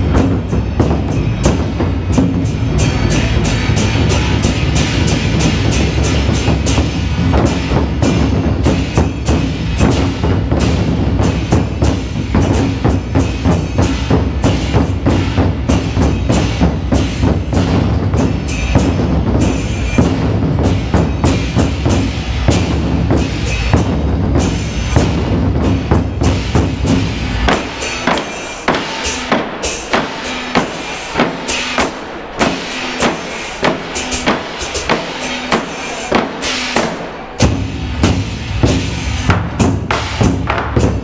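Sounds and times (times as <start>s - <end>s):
large drums booming: 0.0s - 41.0s.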